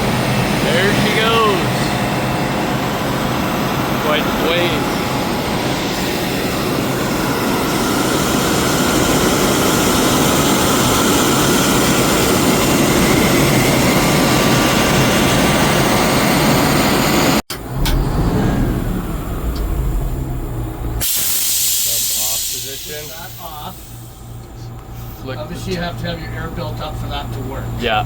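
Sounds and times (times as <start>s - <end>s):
fire truck engine drone: 0.0s - 28.0s.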